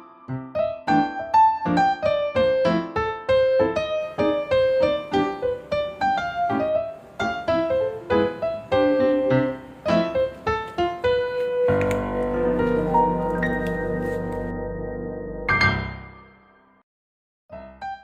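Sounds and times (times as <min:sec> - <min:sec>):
light piano melody: 0:00.0 - 0:16.6, 0:17.5 - 0:18.0.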